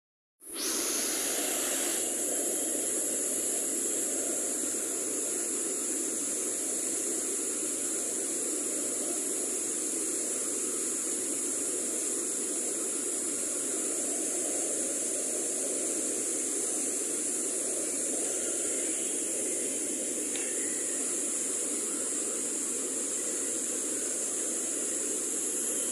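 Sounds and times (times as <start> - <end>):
waterfall rushing over rocks: 0.6 - 25.9.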